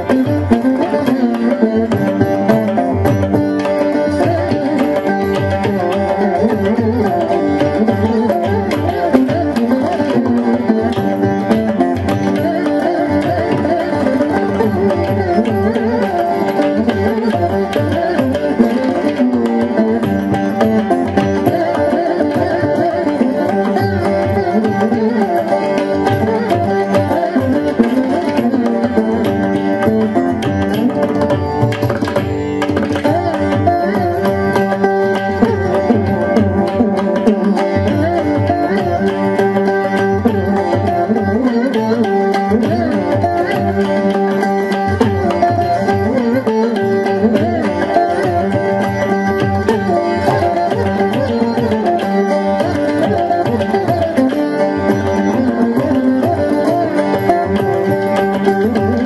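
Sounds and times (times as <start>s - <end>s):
hand drum percussion: 0.0s - 59.0s
veena melody over drone: 0.0s - 59.0s.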